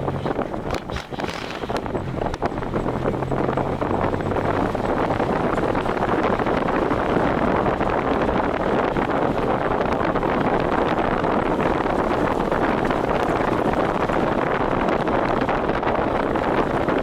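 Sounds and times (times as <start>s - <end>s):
road and engine noise: 0.0s - 17.0s
wind rushing over microphone: 0.0s - 17.0s.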